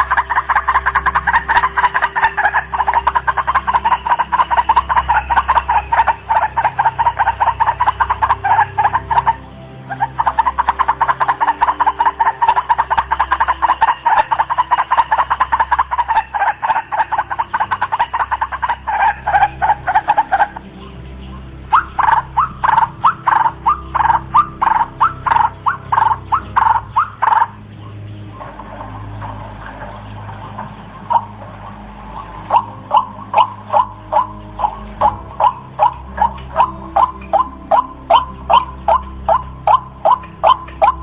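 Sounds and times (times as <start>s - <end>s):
steady low hum: 0.0s - 41.0s
waterhen calling harsh notes: 0.0s - 41.0s.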